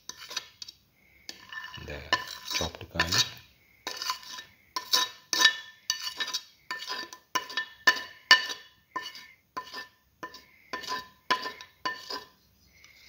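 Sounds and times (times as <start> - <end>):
spoon scraping china plate: 0.0 - 12.4.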